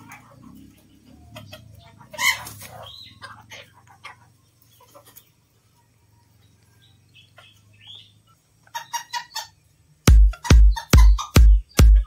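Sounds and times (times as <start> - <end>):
chickens chirping: 0.0 - 12.0
chickens clucking: 0.0 - 12.0.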